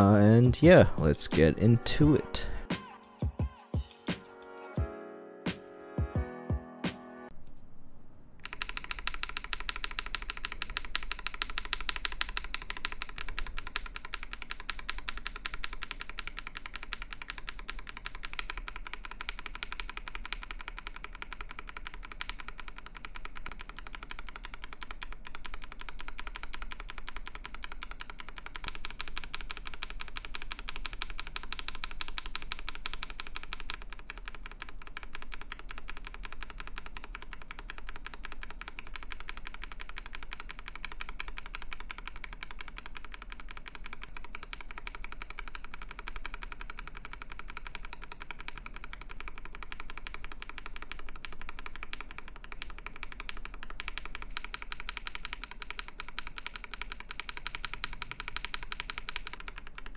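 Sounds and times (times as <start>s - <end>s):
mechanical keyboard typing: 8.4s - 59.9s.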